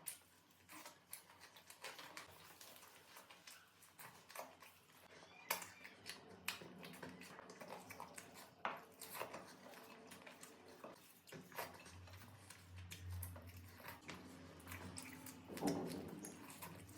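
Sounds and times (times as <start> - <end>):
wet chewing: 0.0 - 16.9.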